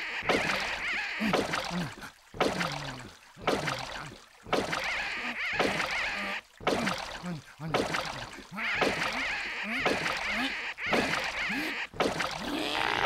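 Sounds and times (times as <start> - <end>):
cartoon rowboat rhythmic strokes: 0.0 - 13.0.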